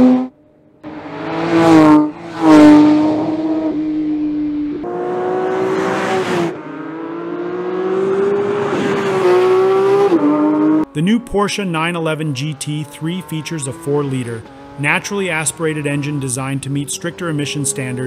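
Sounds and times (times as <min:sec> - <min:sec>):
race car passing by: 0:00.0 - 0:10.9, 0:12.9 - 0:18.0
race car engine at high revs: 0:00.0 - 0:11.0, 0:12.2 - 0:18.0.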